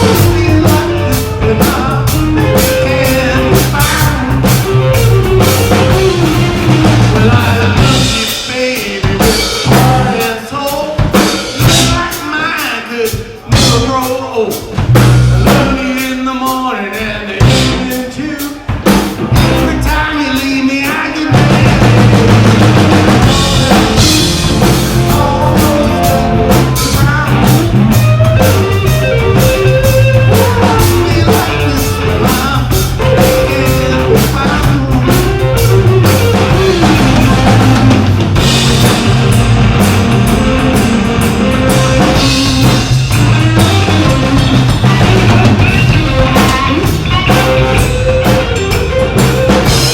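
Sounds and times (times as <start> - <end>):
rock band playing live: 0.0 - 49.9.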